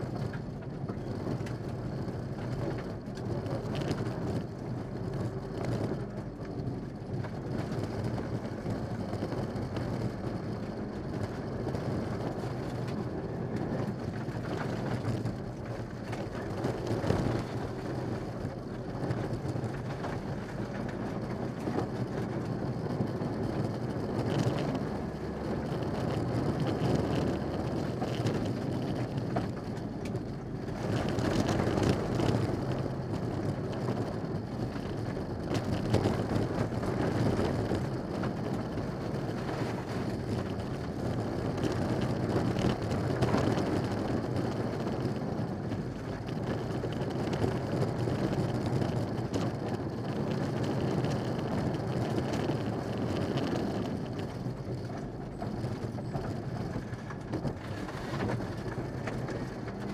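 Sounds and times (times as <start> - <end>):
car engine running hard: 0.0 - 59.9
gravel and tyre noise: 0.0 - 59.9.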